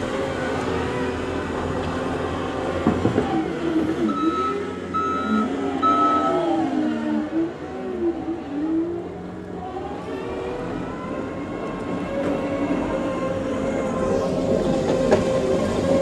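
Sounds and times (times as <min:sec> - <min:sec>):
diesel construction machine engine: 0:00.0 - 0:16.0.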